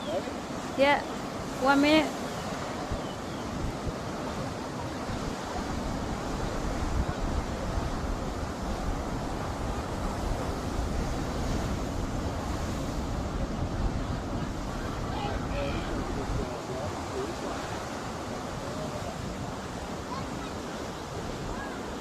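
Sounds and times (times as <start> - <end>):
storm surf breaking: 0.0 - 22.0
wind buffeting microphone: 0.0 - 22.0.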